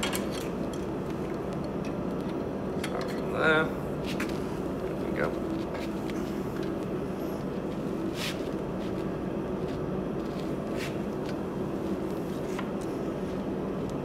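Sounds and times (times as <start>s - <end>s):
forge humming: 0.0s - 14.0s.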